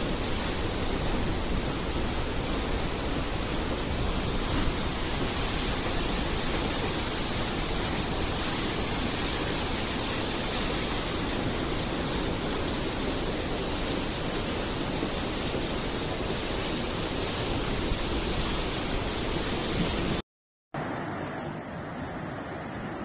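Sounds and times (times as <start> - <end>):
flooded river rushing: 0.0 - 20.2.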